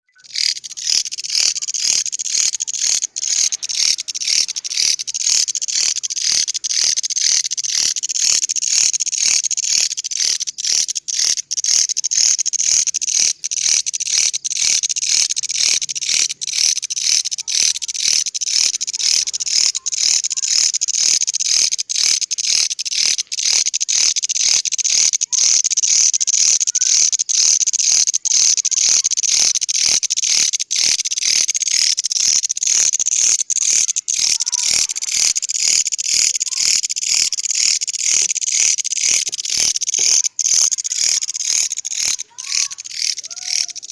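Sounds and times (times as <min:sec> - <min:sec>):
grasshopper buzzing song: 0:00.1 - 0:43.9.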